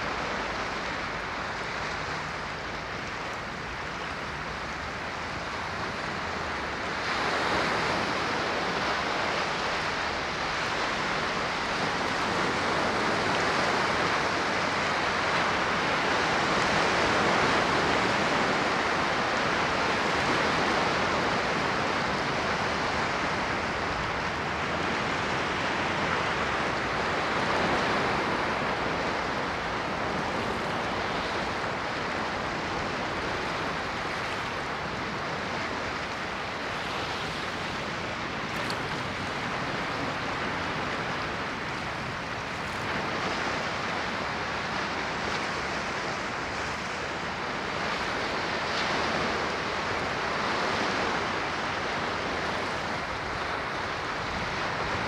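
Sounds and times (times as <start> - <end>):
ocean waves washing onto shore: 0.0 - 55.0.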